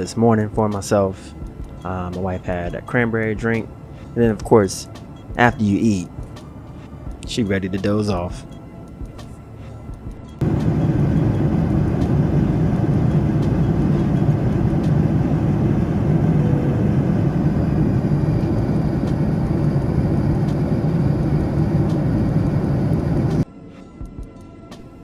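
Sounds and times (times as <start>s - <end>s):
airliner cabin engine rumble: 0.0s - 23.4s.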